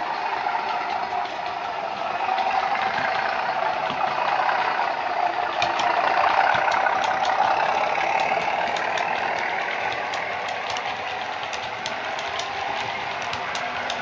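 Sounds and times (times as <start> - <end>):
model diesel engine sound from speaker: 0.0 - 14.0
model wheels clicking over rail joints: 0.0 - 14.0.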